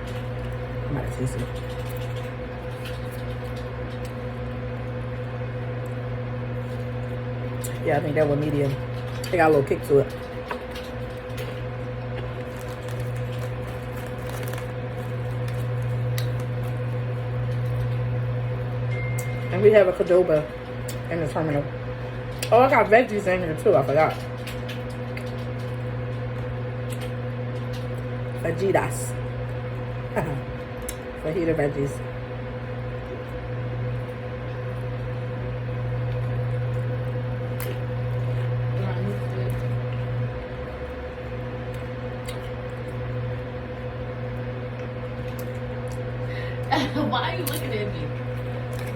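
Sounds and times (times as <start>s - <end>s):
chewing and mouth sounds: 0.0s - 19.3s, 22.2s - 22.6s, 24.1s - 28.4s, 29.4s - 31.2s, 32.8s - 46.3s, 47.4s - 48.9s
steady low hum: 0.0s - 48.9s.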